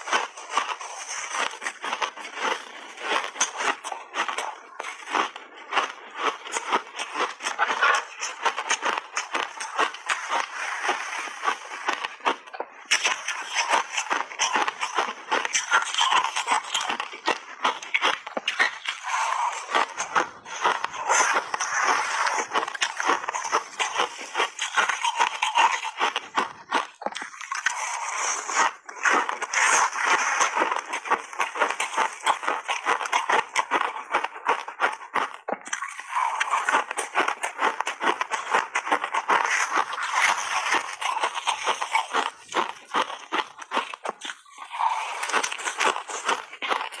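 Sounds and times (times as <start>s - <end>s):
ice being chewed: 0.0s - 47.0s
ice chunks grinding together: 0.0s - 47.0s.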